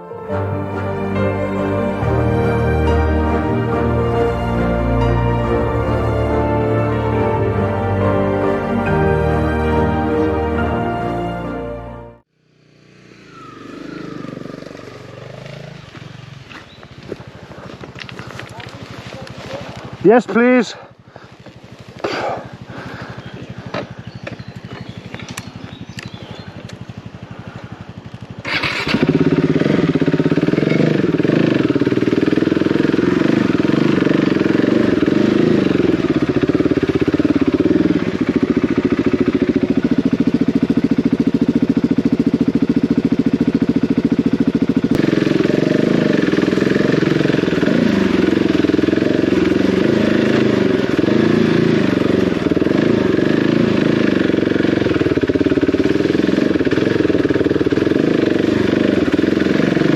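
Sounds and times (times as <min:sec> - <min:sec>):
motorcycle engine: 0:00.0 - 0:20.0, 0:21.1 - 0:59.9.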